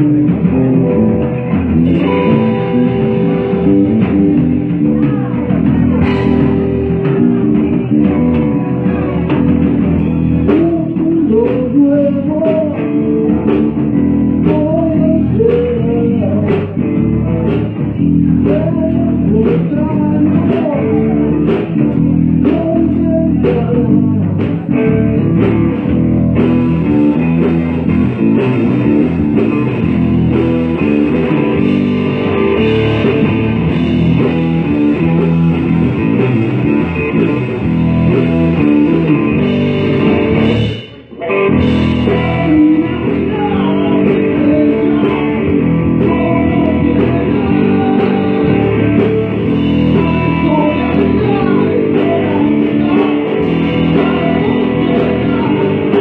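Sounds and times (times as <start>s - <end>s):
blues-rock band playing: 0.0s - 56.0s.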